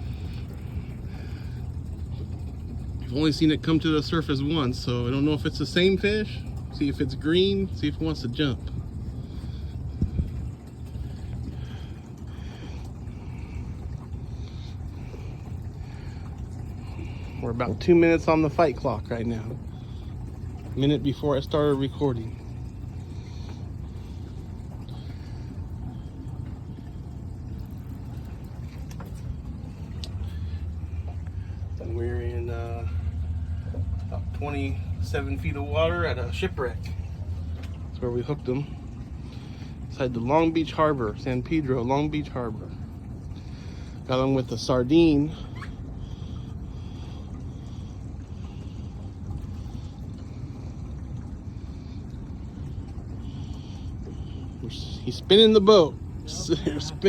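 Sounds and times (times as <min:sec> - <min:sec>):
boat motor idling: 0:00.0 - 0:57.0
steady low rumble: 0:00.0 - 0:57.0.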